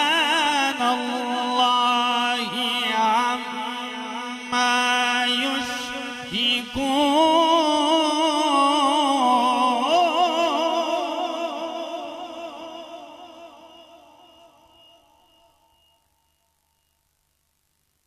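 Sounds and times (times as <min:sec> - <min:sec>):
man chanting a long melodic note: 0:00.0 - 0:16.0.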